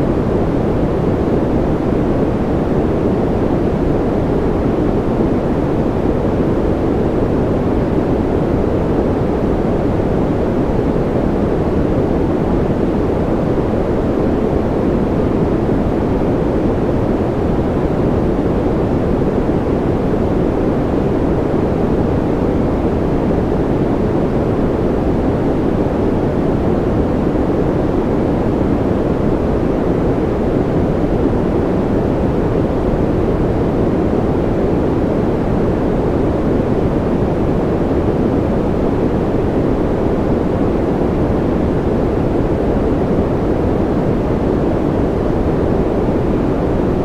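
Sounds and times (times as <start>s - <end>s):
deep white noise hiss: 0.0s - 47.0s.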